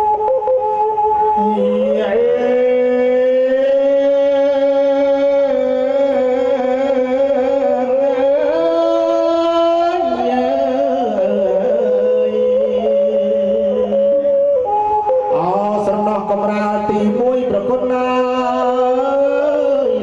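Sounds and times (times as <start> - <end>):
person singing: 0.0 - 20.0.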